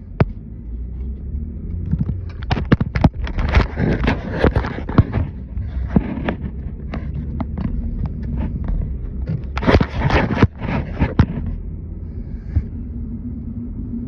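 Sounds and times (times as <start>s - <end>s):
sharp clicks and knocks: 0.0s - 11.6s
car road and engine rumble: 0.0s - 14.0s.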